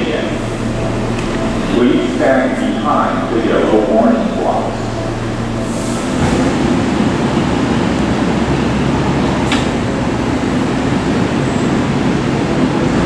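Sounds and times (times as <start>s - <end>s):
train machinery hum: 0.0s - 13.0s.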